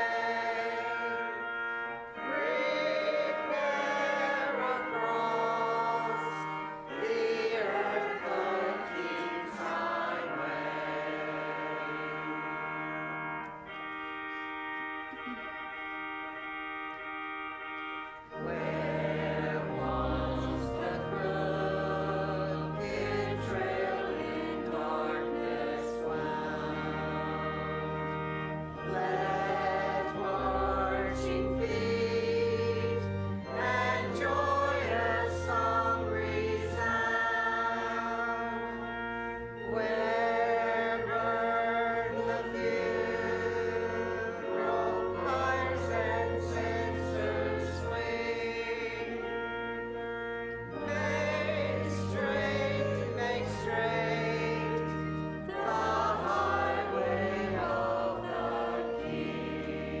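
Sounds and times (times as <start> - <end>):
choir singing: 0.0 - 60.0
sustained instrumental accompaniment: 0.0 - 60.0.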